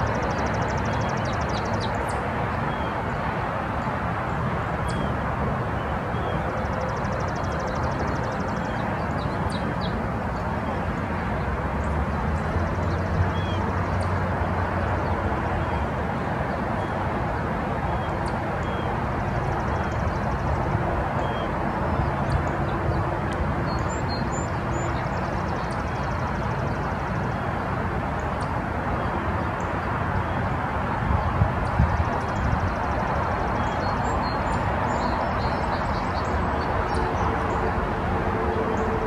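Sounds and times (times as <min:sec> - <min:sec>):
steady rushing rumble: 0:01.8 - 0:39.0.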